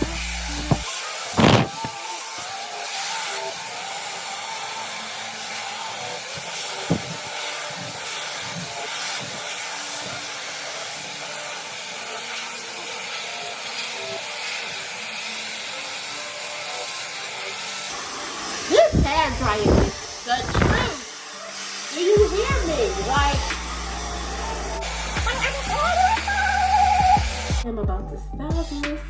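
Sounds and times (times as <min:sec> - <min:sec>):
hair dryer blowing: 0:00.0 - 0:14.9, 0:16.2 - 0:27.6.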